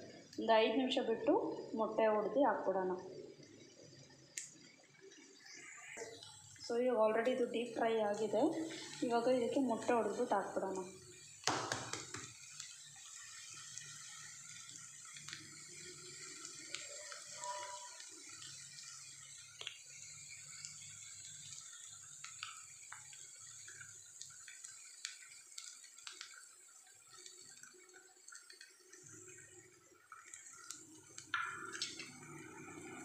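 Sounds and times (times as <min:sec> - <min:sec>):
food sizzling in oil: 0:00.0 - 0:33.0
egg cracking over pan: 0:04.3 - 0:33.0.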